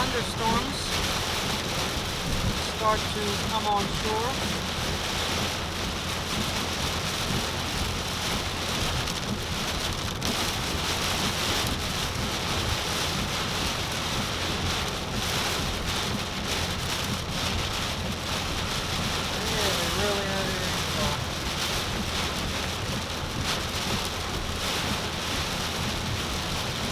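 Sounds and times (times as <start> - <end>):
constant low rumble: 0.0 - 26.9
heavy rain pelting a car: 0.0 - 26.9.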